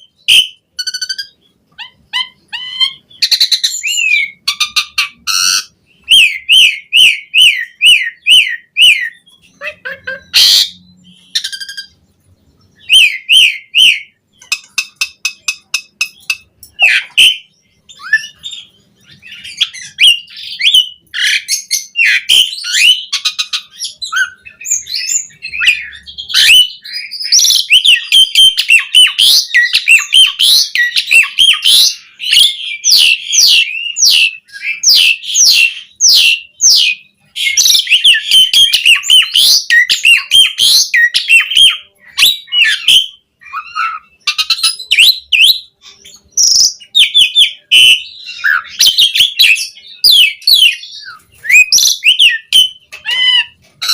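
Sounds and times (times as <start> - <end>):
starling singing: 0.0 - 53.9.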